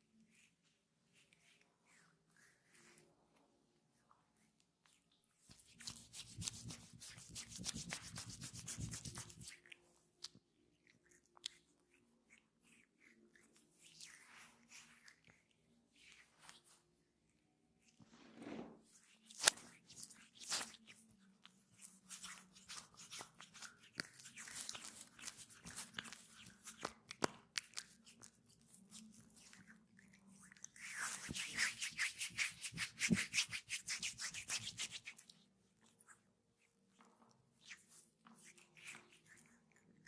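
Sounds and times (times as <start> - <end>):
hands rubbing oiled skin: 4.4 - 10.3, 11.3 - 16.9, 18.0 - 39.6.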